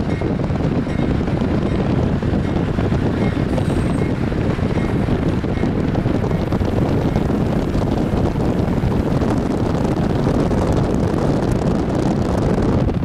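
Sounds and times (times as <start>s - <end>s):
car wind and road noise: 0.0s - 13.0s
wind buffeting microphone: 0.0s - 13.0s.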